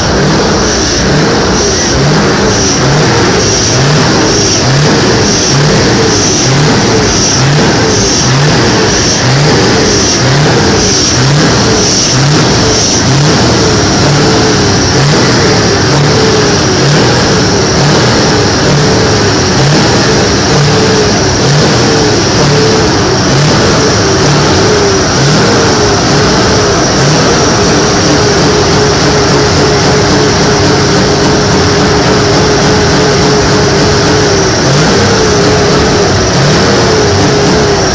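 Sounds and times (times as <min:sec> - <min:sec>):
truck engine revving: 0:00.0 - 0:37.9.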